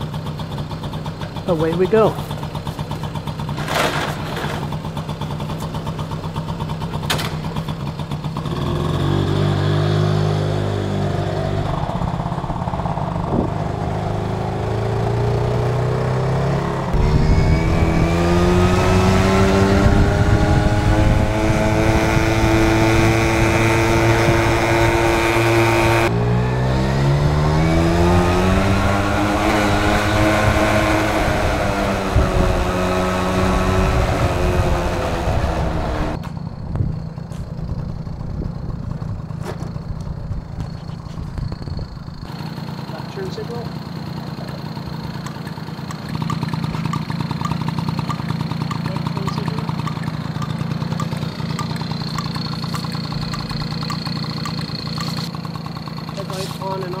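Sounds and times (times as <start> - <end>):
two-stroke minibike engine: 0.0 - 57.0.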